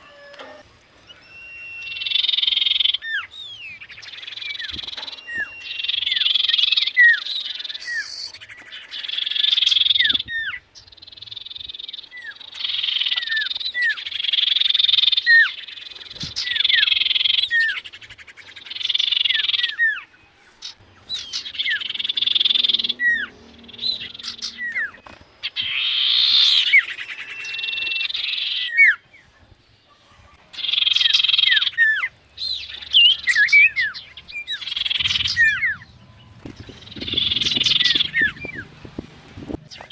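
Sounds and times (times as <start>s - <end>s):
bird buzzy trills: 0.0s - 29.0s, 30.6s - 39.9s.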